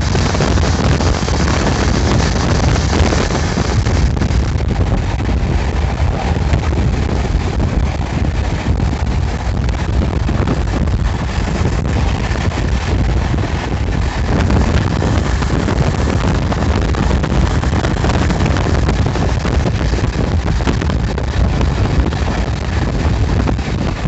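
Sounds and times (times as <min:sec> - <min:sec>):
deep rumble: 0:00.0 - 0:24.0
wind rushing over microphone: 0:00.0 - 0:24.0.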